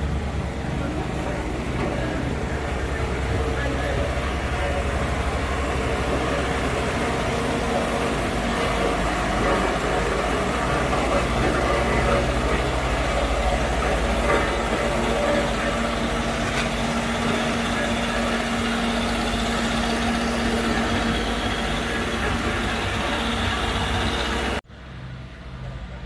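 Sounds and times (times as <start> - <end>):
heavy vehicle engine rumbling: 0.0 - 26.0
road work noise: 0.0 - 26.0.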